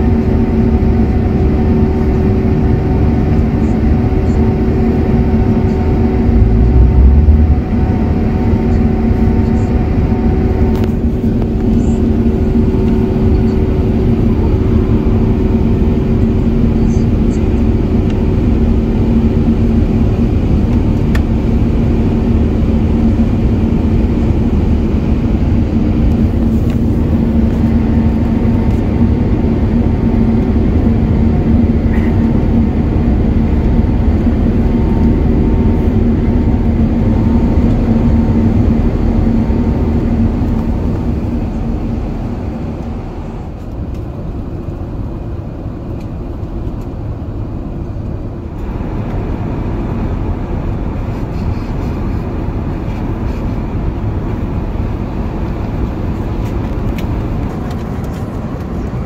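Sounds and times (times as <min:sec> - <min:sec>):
airplane cabin engine drone: 0:00.0 - 0:59.0
constant low hum: 0:00.0 - 0:59.0.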